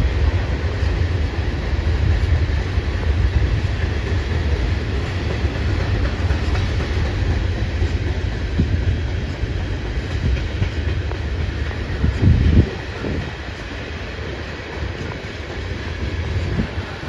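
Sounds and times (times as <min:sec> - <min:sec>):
freight train cars rumbling past: 0:00.0 - 0:17.0.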